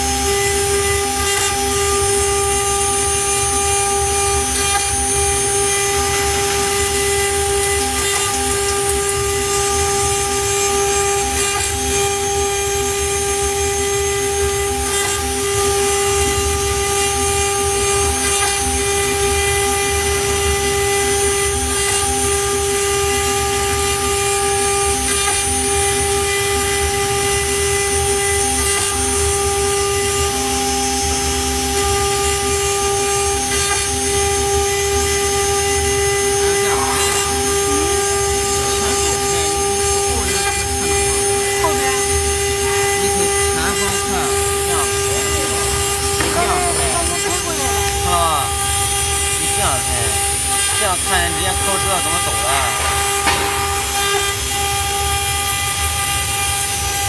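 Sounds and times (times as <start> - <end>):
bit cutting wood: 0.0 - 57.0
router spindle whine: 0.0 - 57.0.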